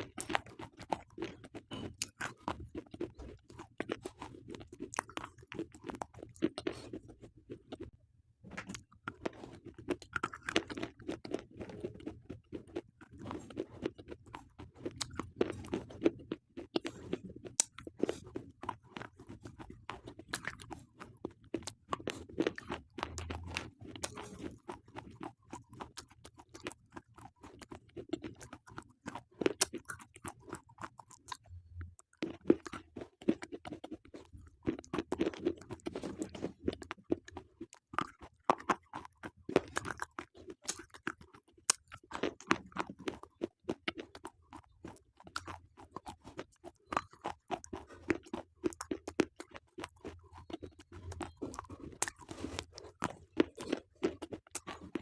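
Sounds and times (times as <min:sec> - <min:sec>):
person crunching slate pencils: 0:08.6 - 0:31.4, 0:32.2 - 0:55.0.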